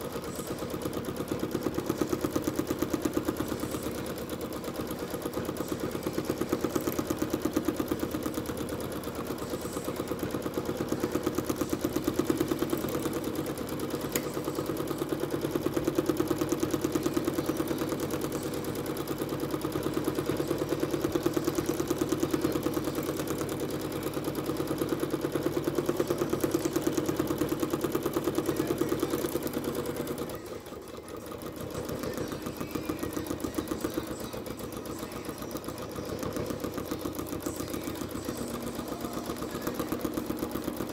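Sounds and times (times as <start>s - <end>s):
sewing machine stitching: 0.0s - 40.9s.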